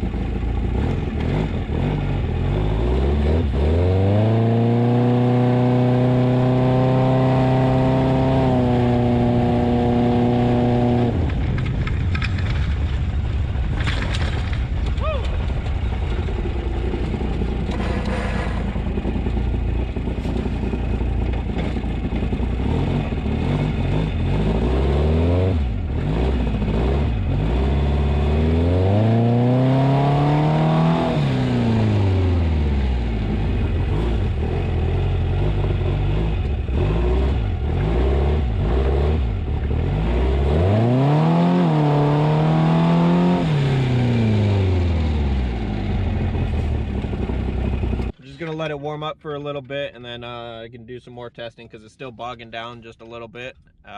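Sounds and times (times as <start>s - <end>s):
buggy engine accelerating: 0.0s - 48.8s.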